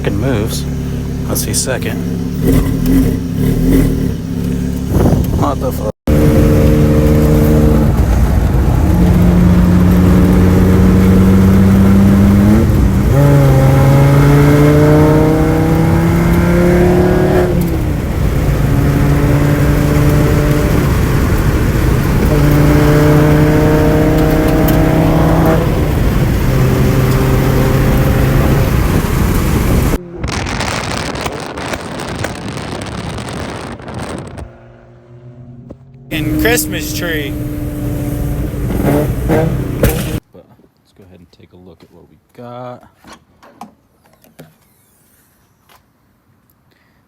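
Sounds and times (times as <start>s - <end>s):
car engine revving through gears: 0.0s - 31.9s, 33.2s - 40.2s.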